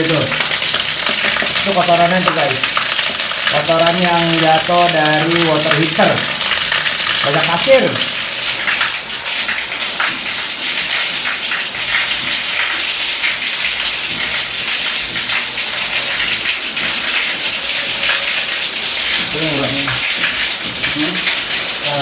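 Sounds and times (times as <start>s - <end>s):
water gushing onto tiled floor: 0.0s - 22.0s.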